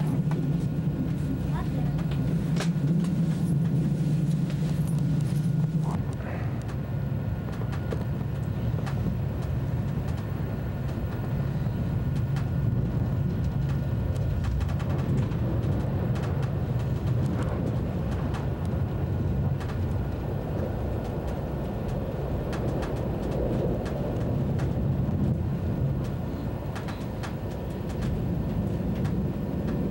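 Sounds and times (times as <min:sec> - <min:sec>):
high-speed train rumbling: 0:00.0 - 0:29.9.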